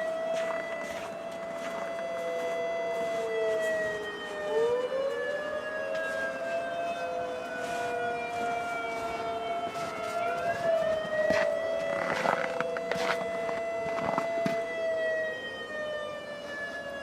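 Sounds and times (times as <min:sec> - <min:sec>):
tornado warning sirens wailing: 0:00.0 - 0:17.0.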